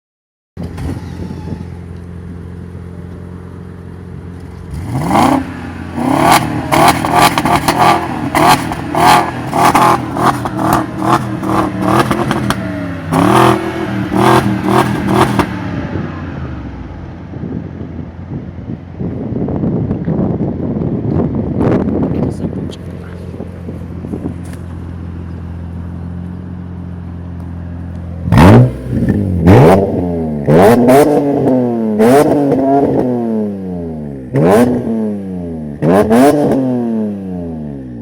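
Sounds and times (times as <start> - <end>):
car engine idling and revving: 0.6 - 38.0.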